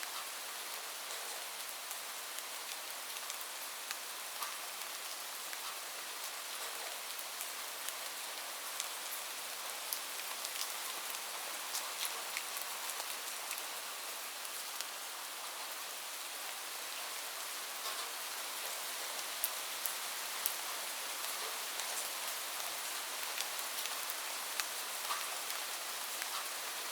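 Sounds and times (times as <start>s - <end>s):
light rain falling: 0.0s - 26.9s
raindrops ticking on a surface: 0.0s - 26.9s.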